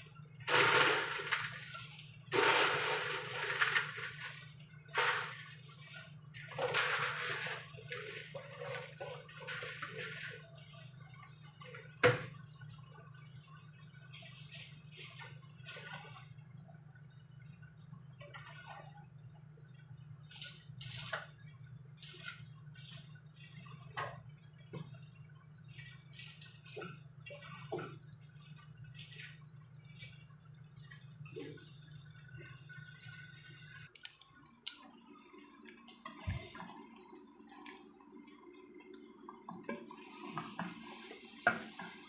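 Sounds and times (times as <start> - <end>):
noodles stirred in a pot: 0.0 - 16.7, 19.8 - 32.7, 35.1 - 42.0.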